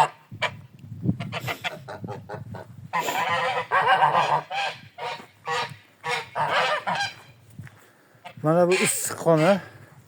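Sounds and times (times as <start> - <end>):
geese honking: 0.0 - 0.6, 1.3 - 7.4, 8.2 - 9.6.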